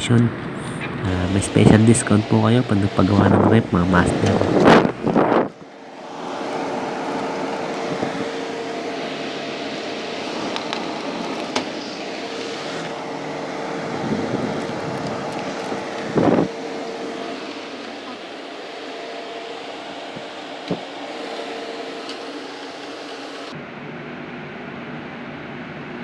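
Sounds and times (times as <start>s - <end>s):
air conditioner fan rushing: 0.0s - 26.0s
air conditioner hum: 0.0s - 26.0s.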